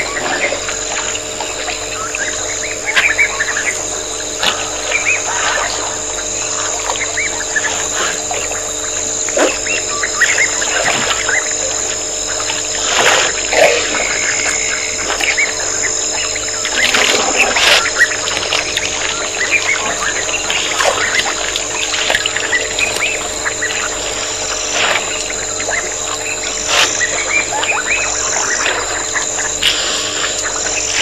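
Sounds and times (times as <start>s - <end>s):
small birds chirping: 0.0s - 31.0s
steady hum: 0.0s - 31.0s
water splashing and trickling: 0.0s - 31.0s.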